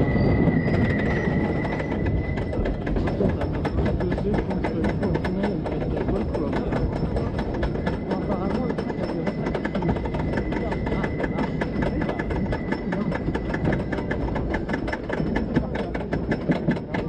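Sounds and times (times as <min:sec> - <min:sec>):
rapid track clicking: 0:00.0 - 0:17.0
roller coaster train rumbling: 0:00.0 - 0:17.0.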